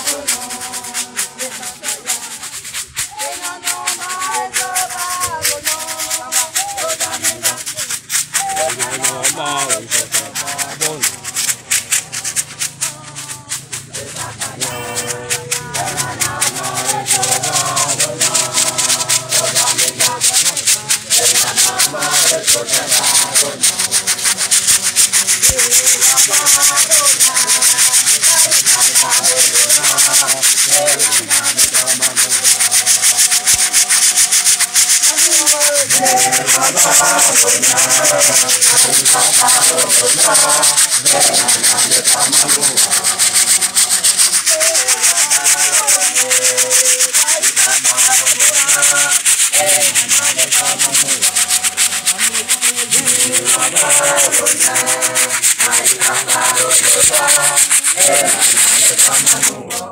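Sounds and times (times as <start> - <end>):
choir singing in unison: 0.0 - 59.9
gourd shakers rattling: 0.0 - 59.9.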